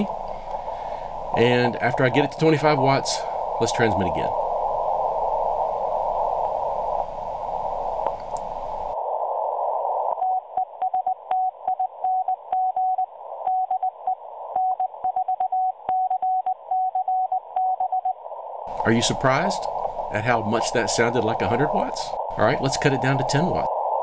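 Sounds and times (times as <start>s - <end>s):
shortwave receiver hiss: 0.0s - 24.0s.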